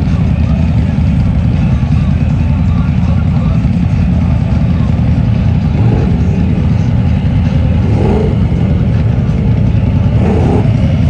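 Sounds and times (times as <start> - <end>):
truck engines rumbling: 0.0 - 11.0.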